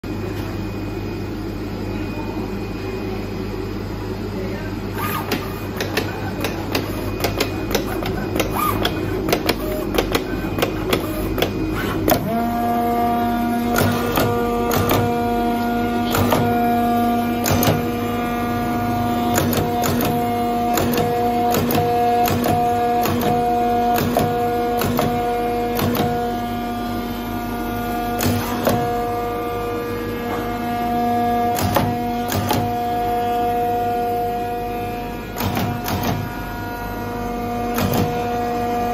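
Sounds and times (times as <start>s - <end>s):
motor whine: 0.1s - 38.9s.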